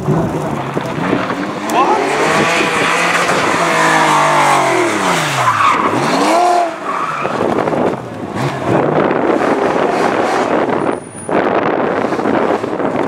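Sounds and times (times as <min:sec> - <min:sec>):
car rushing past: 0:00.0 - 0:13.0
rally car engine revving: 0:00.0 - 0:13.0.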